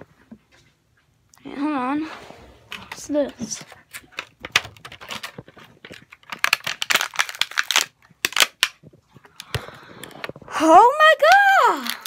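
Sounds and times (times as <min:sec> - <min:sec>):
crinkling and rustling handling: 0:00.0 - 0:12.0.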